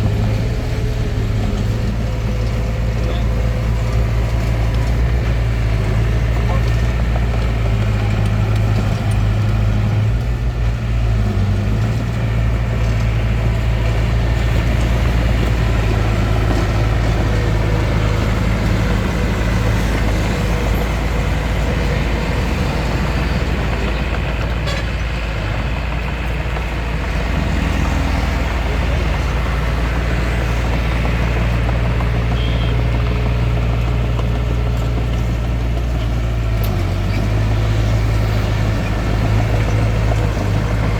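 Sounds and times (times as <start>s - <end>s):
bulldozer diesel engine humming: 0.0s - 40.9s.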